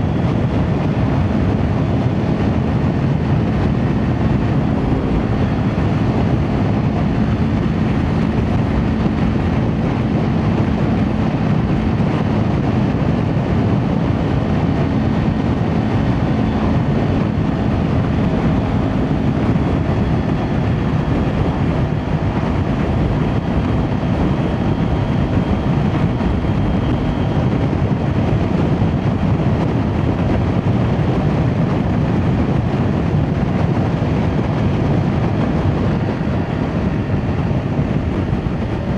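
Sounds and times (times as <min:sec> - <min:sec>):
motorcycle engine riding: 0:00.0 - 0:38.9
wind noise: 0:00.0 - 0:38.9.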